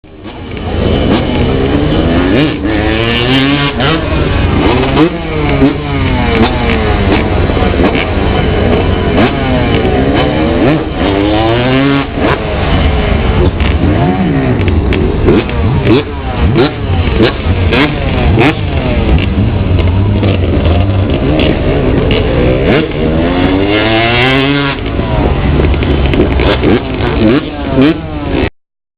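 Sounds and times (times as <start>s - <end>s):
dirt bike engines revving: 0.1s - 28.5s.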